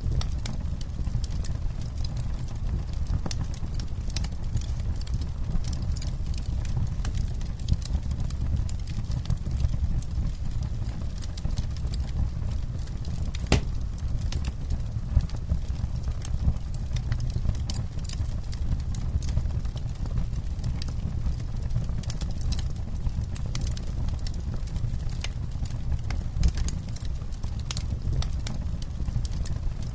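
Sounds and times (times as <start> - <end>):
campfire crackling and popping: 0.1 - 29.9.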